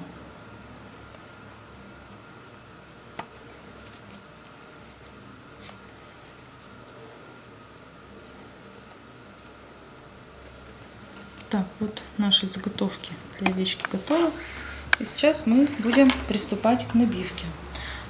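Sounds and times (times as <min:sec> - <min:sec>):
low steady hum: 0:00.0 - 0:18.0
fabric rustling and scraping: 0:01.0 - 0:11.9, 0:12.5 - 0:17.3.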